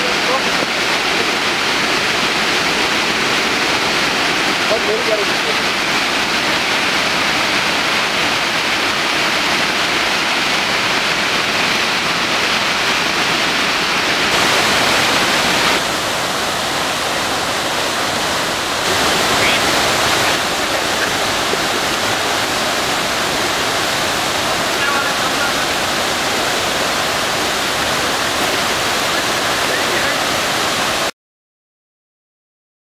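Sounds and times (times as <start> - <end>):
waterfall rushing: 0.0 - 31.1.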